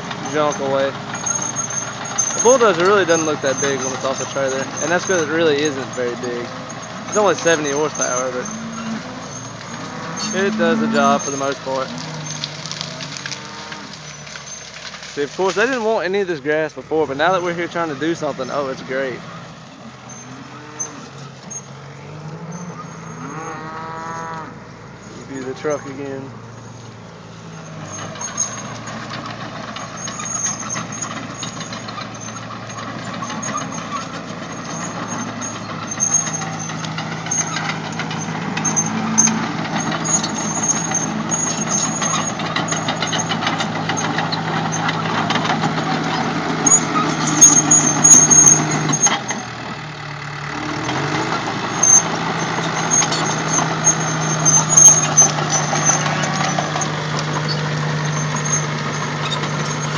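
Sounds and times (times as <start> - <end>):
metallic clanks and knocks: 0.0 - 16.4, 26.6 - 49.8, 50.4 - 59.9
heavy engine running: 0.0 - 59.9.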